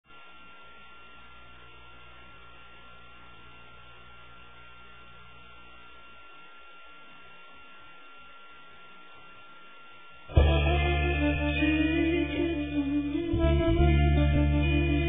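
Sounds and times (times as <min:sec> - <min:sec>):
electrical mains hum: 0:00.0 - 0:15.0
thin high whine: 0:00.1 - 0:15.0.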